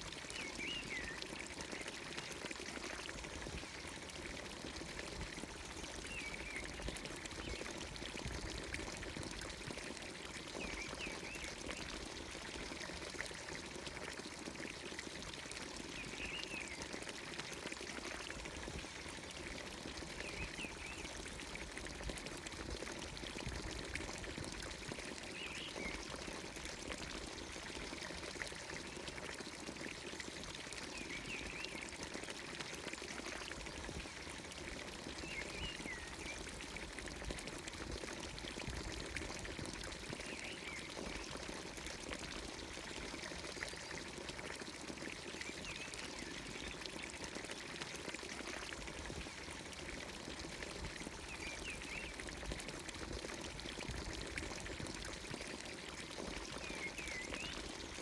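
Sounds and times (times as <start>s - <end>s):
water pouring into a trough: 0.0s - 58.0s.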